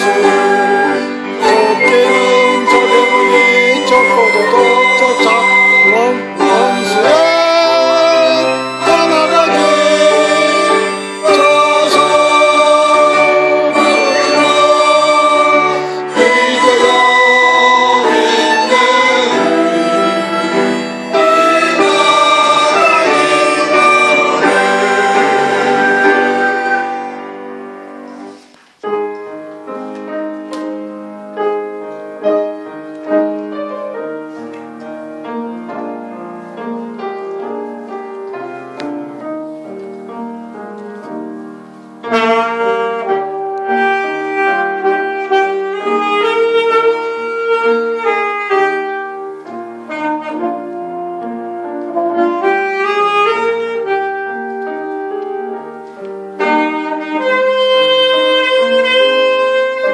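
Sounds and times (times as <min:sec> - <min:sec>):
saxophone slow melody: 0:00.0 - 0:29.2, 0:41.0 - 0:59.9
piano accompaniment: 0:00.0 - 0:59.9.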